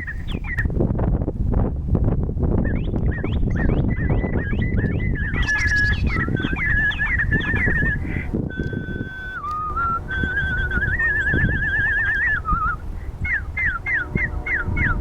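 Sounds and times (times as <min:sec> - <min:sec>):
small birds chirping: 0:00.0 - 0:00.7, 0:02.7 - 0:15.0
long steady whistle: 0:02.7 - 0:15.0.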